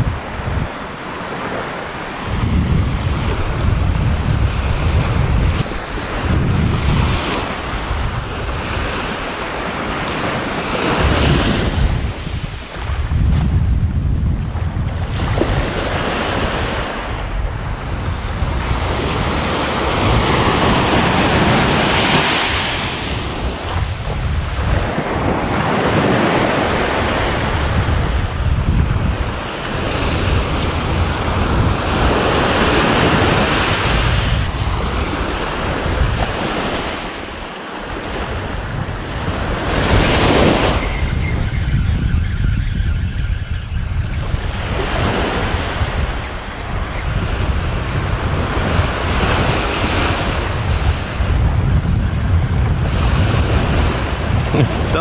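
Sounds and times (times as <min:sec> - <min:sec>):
small waves washing on sand: 0:00.0 - 0:41.5, 0:44.0 - 0:55.0
wind buffeting microphone: 0:00.0 - 0:55.0.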